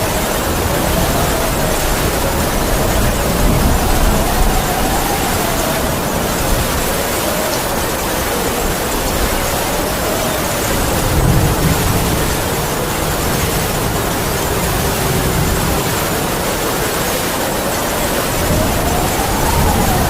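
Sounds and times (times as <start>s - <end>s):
heavy rain falling: 0.0s - 20.0s
wind howling: 0.0s - 20.0s.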